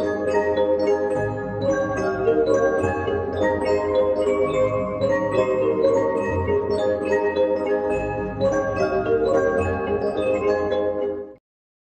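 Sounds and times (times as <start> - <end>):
mallet percussion melody: 0.0 - 11.1.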